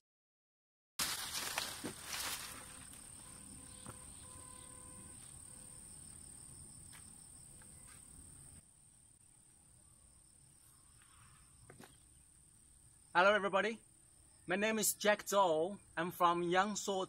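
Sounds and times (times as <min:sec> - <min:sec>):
insects trilling: 0:01.1 - 0:17.0.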